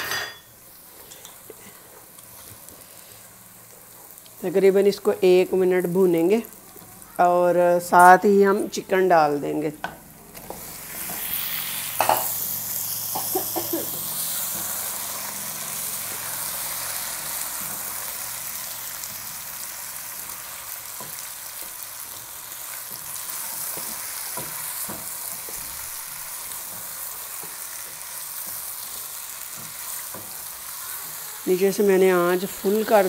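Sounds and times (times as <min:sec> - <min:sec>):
chicken sizzling in hot oil: 0:00.0 - 0:08.0, 0:10.2 - 0:33.0.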